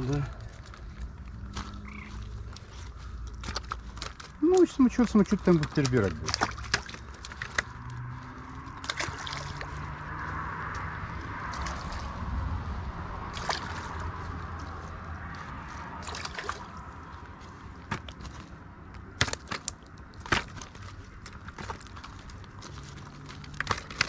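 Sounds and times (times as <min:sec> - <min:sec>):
water sloshing in a bucket: 0:00.0 - 0:12.4, 0:13.2 - 0:24.0.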